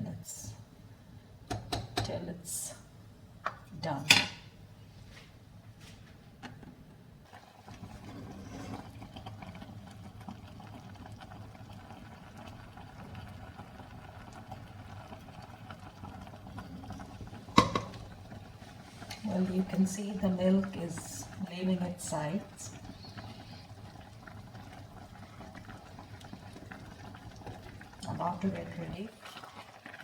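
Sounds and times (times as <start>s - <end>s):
milk simmering with low bubbling: 4.7s - 30.0s.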